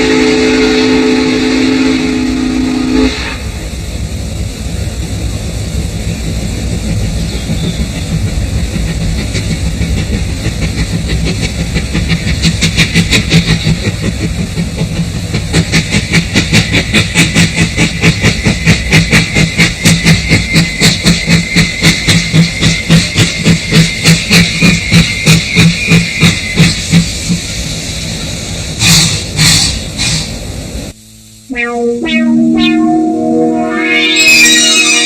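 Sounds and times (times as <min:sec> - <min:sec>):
steam locomotive chuffing: 0:00.0 - 0:30.9
steam hissing: 0:00.0 - 0:35.0.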